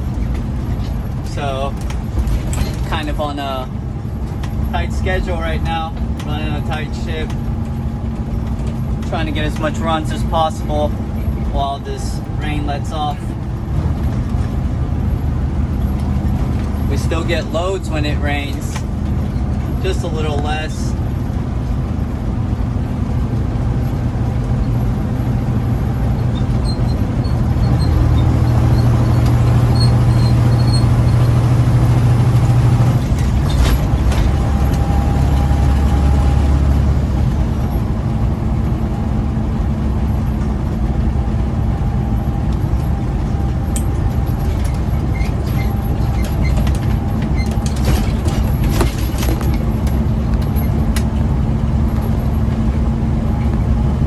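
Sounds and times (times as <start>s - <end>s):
diesel truck engine running: 0.0s - 54.0s
light rattles: 0.0s - 54.0s.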